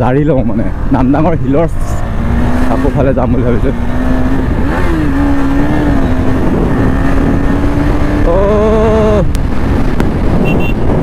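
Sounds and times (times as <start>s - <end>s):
motorcycle engine at speed: 0.0s - 11.0s
wind noise on microphone: 0.7s - 11.0s.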